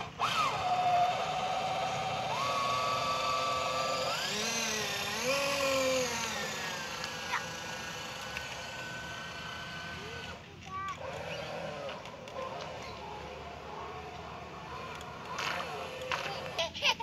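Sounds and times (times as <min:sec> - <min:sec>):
small electric motor whining: 0:00.0 - 0:16.8.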